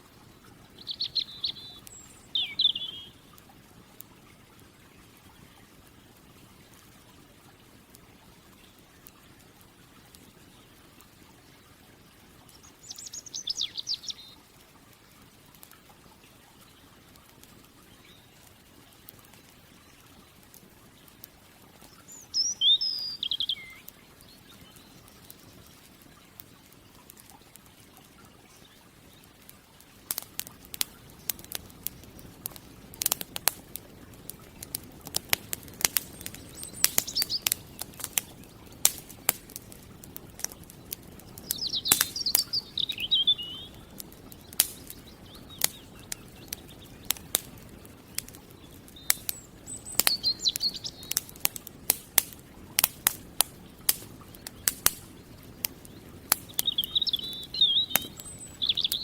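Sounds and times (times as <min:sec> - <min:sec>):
campfire crackling and popping: 0:00.0 - 0:59.0
songbirds chirping: 0:00.0 - 0:59.0.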